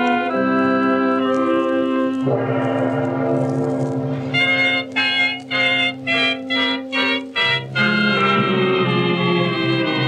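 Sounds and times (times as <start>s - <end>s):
organ music: 0.0s - 10.0s.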